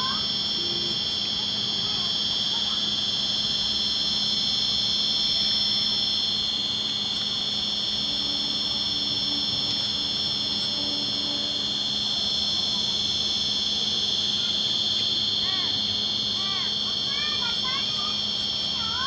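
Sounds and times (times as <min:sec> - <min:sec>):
high-pitched electric motor whine: 0:00.0 - 0:19.0
low motor hum: 0:00.0 - 0:19.0.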